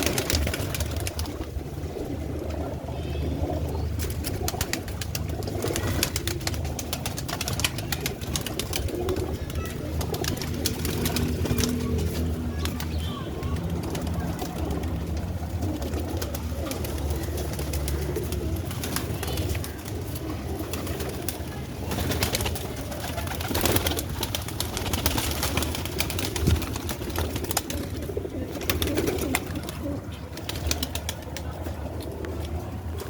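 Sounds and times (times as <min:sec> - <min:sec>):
pigeons cooing: 0:00.0 - 0:33.0
wings flurry: 0:00.0 - 0:33.0.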